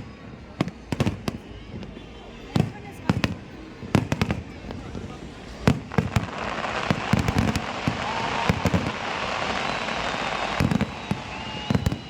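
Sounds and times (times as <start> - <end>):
fireworks booms: 0.0 - 12.0
fireworks crackling: 0.0 - 12.0.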